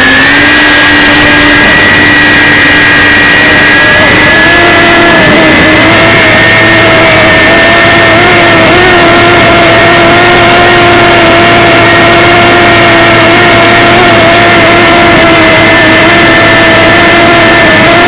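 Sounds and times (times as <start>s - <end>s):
model airplane motor droning: 0.0s - 18.0s
wind rushing past camera: 0.0s - 18.0s.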